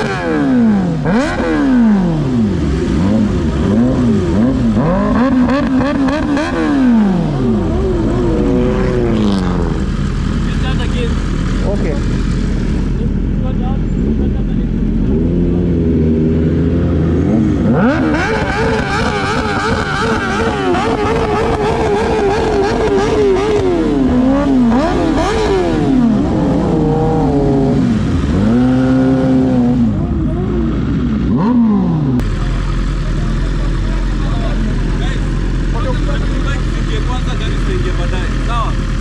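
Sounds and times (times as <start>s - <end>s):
low engine hum: 0.0s - 39.0s
motorcycle engines revving: 0.0s - 39.0s.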